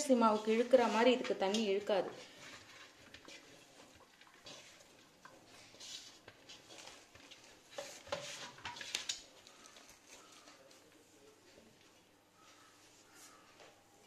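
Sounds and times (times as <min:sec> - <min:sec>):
hands kneading dough in metal pan: 0:00.0 - 0:14.0.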